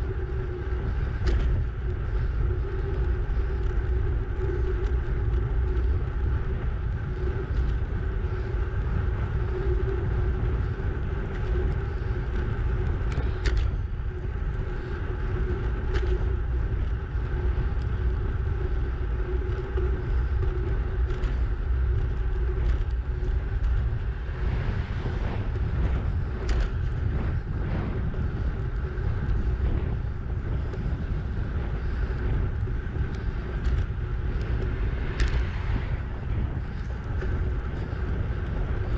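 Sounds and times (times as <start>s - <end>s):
steady hum: 0.0s - 38.9s
wind rumble on microphone: 0.0s - 38.9s.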